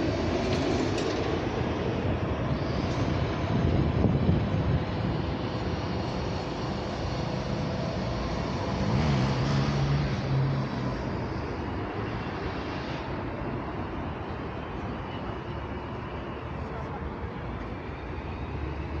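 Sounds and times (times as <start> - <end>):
passing vehicle rumble: 0.0 - 19.0.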